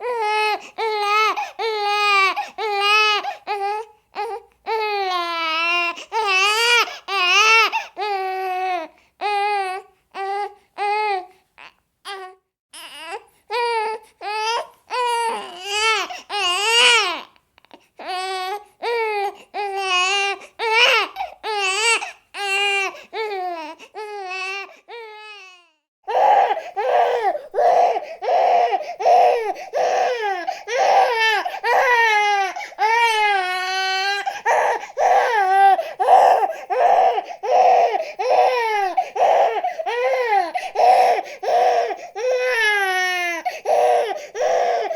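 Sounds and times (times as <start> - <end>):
baby crying: 0.0 - 44.9.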